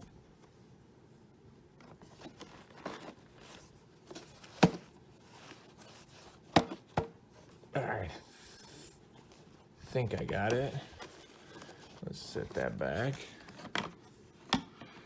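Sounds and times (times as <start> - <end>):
plastic parts rustling and scraping: 1.8 - 15.0.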